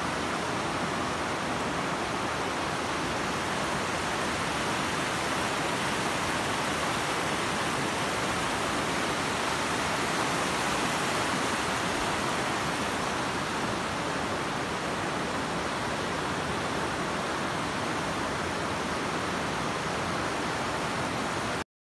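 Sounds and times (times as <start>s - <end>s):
water rushing over rocks: 0.0s - 21.6s.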